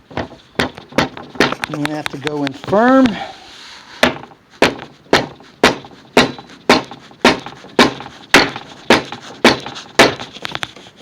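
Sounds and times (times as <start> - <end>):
hammer driving wooden dowel: 0.1 - 3.2, 4.0 - 10.8.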